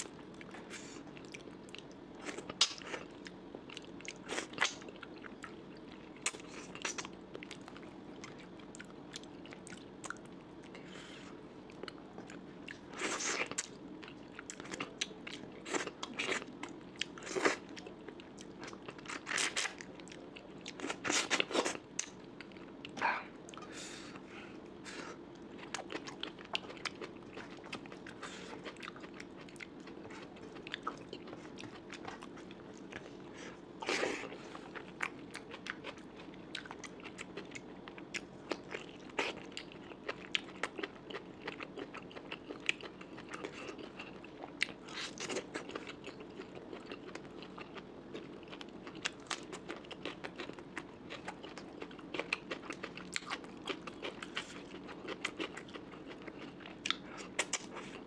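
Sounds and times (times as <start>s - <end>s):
close-miked chewing: 0.0s - 58.0s
faint steady hum: 0.0s - 58.0s.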